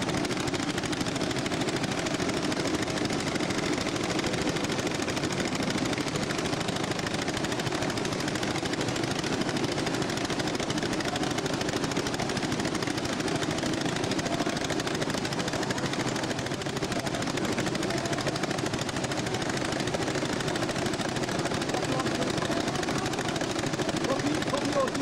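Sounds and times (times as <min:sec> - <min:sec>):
wooden water wheel clattering: 0:00.0 - 0:25.0.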